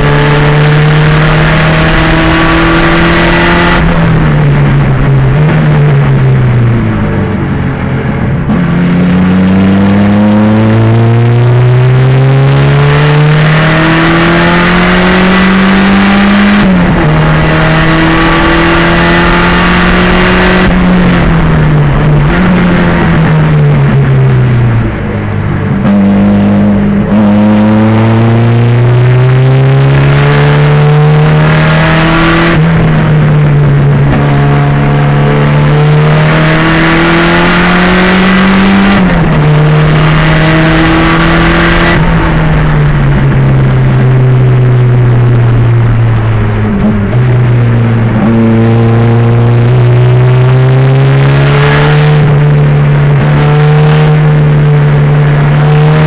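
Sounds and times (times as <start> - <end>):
racing car engine accelerating: 0.0 - 56.0.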